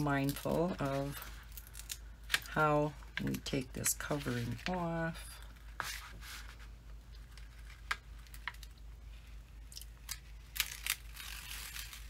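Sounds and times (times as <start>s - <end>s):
plastic film peeling crackling: 0.0s - 4.8s, 7.1s - 12.0s.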